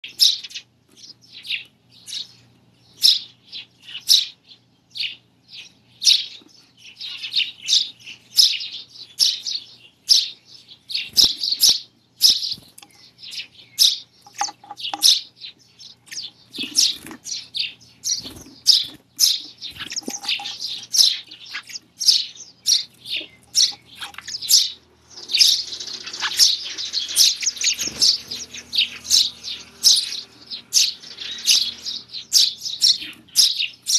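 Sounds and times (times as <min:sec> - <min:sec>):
sparrows chirping: 0:00.0 - 0:33.9.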